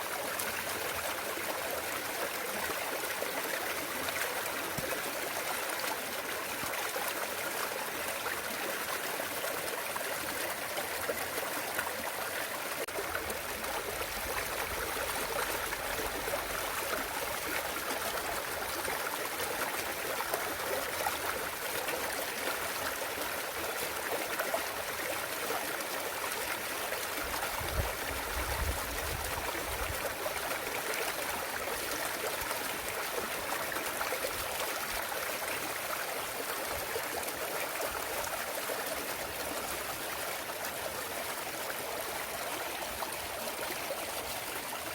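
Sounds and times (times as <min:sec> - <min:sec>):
stream burbling over rocks: 0:00.0 - 0:44.9.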